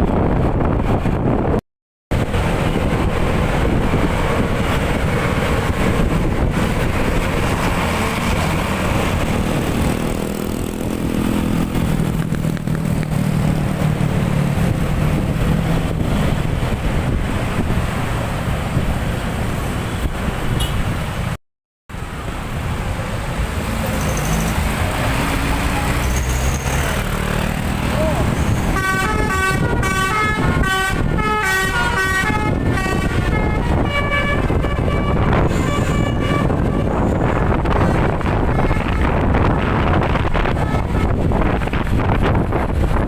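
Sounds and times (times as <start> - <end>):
vehicles engine and road noise: 0.0 - 43.0.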